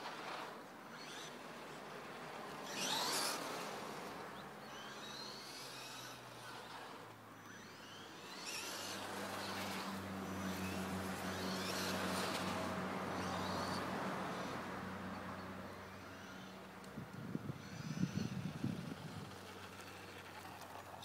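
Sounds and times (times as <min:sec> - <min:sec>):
rc truck electric motor whining: 0:00.0 - 0:21.0.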